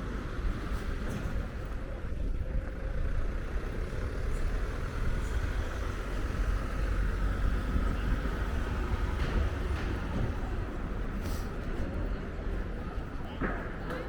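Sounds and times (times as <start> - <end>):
street low rumble: 0.0 - 14.0.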